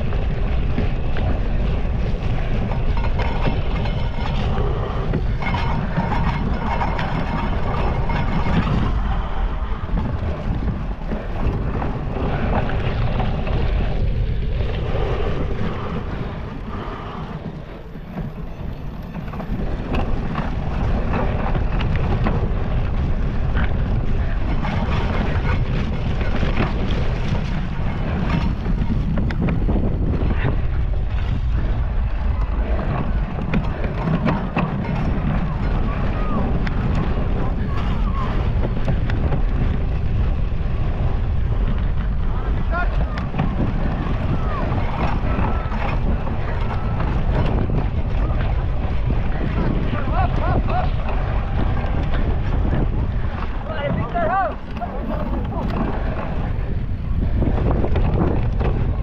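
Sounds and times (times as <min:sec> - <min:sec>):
bike rattling over rough ground: 0:00.0 - 0:59.0
wind rushing over microphone: 0:00.0 - 0:59.0.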